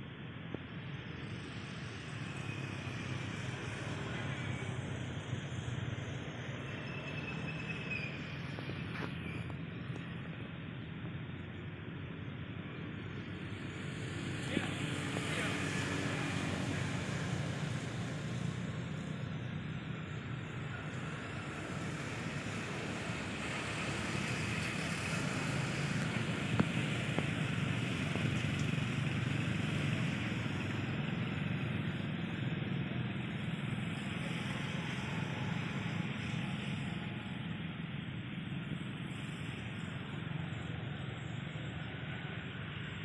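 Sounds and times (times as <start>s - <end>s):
distant vehicle rumble: 0.0s - 43.0s.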